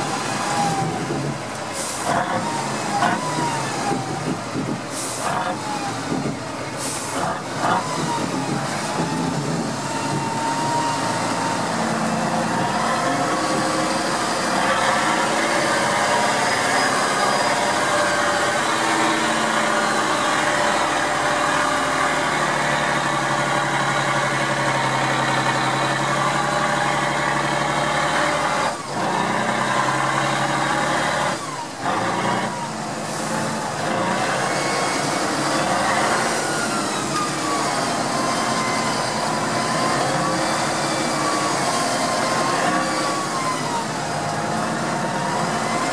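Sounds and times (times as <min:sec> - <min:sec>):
truck diesel engine under load: 0:00.0 - 0:45.9.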